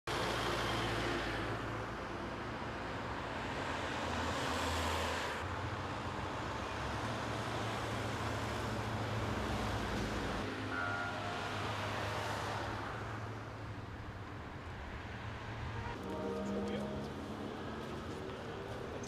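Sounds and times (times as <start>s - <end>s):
road traffic passing: 0.1s - 19.0s.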